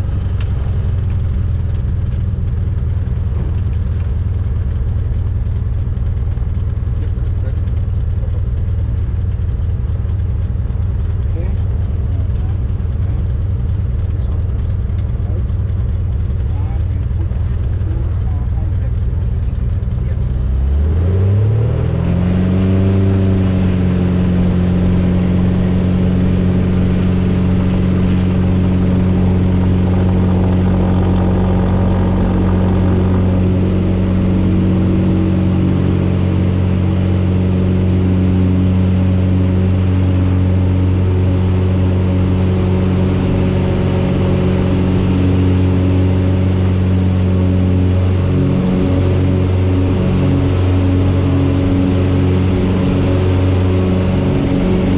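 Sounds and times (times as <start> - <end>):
propeller plane engine at full power: 0.0 - 54.9.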